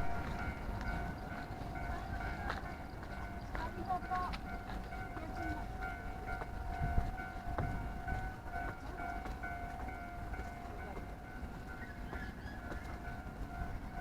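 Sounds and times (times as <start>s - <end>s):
level-crossing alarm dinging: 0.0s - 14.0s
train rumbling on tracks: 0.0s - 14.0s.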